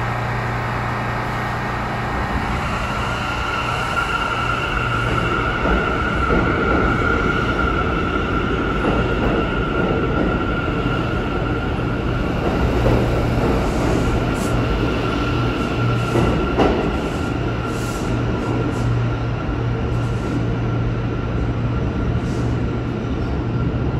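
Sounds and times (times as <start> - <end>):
subway train wheels rumbling on rail: 0.0 - 23.9.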